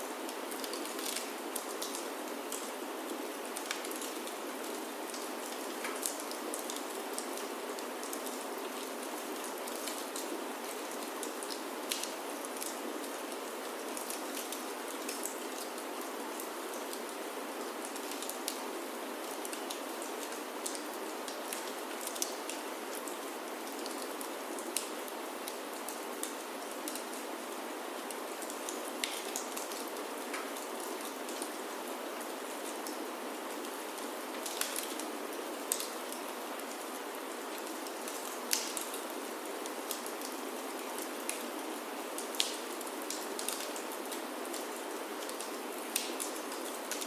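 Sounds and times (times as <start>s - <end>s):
rain on a wooden roof: 0.0s - 47.0s.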